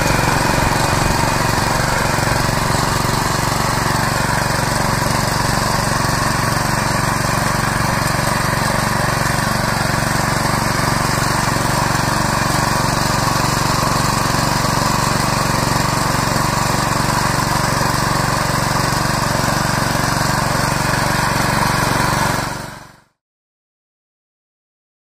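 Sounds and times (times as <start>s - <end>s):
tines churning soil: 0.0s - 23.0s
tiller engine running: 0.0s - 23.1s.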